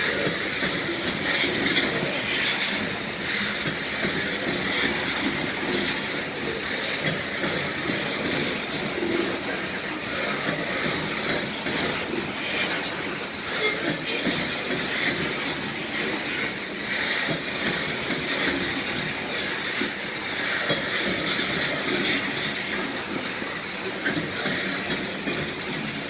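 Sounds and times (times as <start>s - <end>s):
train wheels rolling on track: 0.0s - 26.0s.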